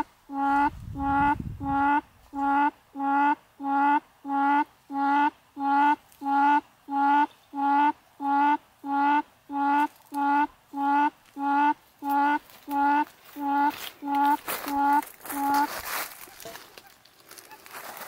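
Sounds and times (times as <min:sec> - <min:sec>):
recorded quail call over loudspeaker: 0:00.0 - 0:17.8.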